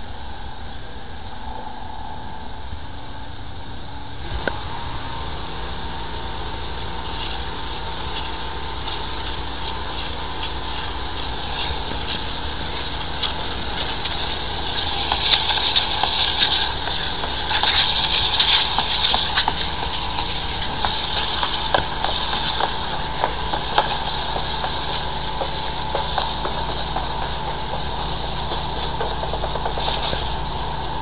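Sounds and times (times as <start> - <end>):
low hum: 0.0 - 28.7
water jet hissing: 0.0 - 31.0.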